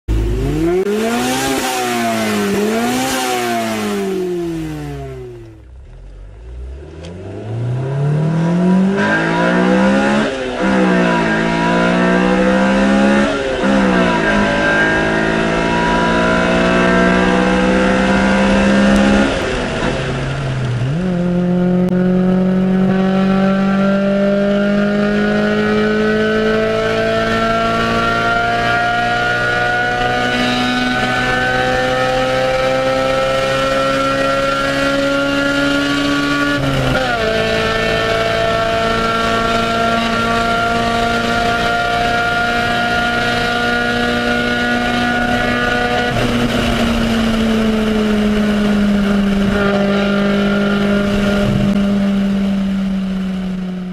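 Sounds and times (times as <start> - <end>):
car engine revving and accelerating: 0.1 - 53.9.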